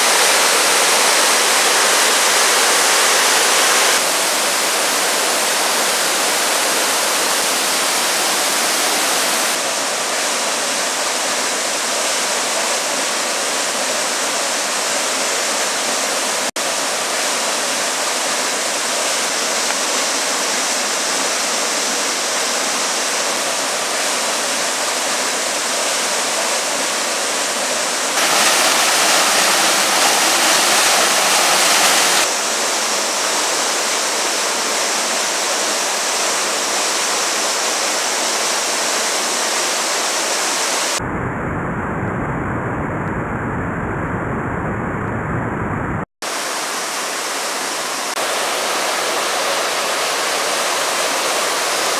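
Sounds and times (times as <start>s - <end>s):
waterfall rushing over rocks: 0.0s - 41.0s, 46.2s - 51.9s.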